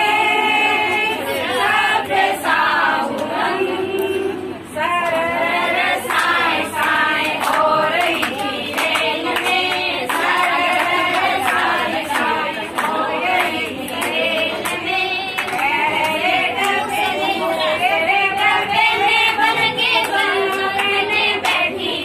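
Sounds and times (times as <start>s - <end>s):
women singing folk song together: 0.0s - 22.0s.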